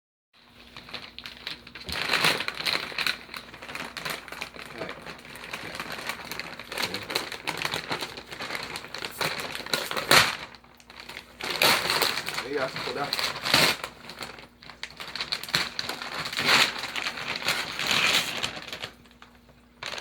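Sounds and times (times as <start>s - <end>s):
wrapping paper crinkling and tearing: 0.4s - 20.0s.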